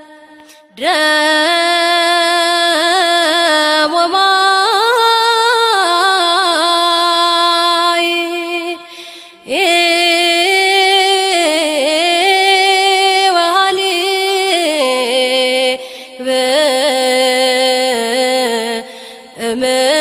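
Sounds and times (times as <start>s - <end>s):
person singing long held notes: 0.0s - 20.0s.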